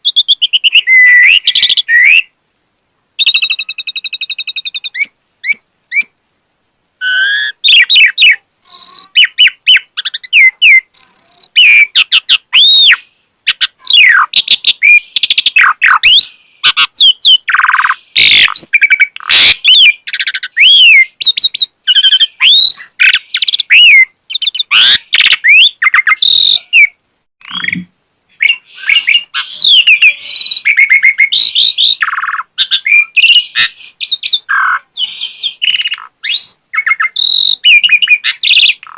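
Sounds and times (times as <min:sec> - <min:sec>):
starling singing: 0:00.0 - 0:02.3, 0:03.2 - 0:06.2, 0:07.0 - 0:38.9.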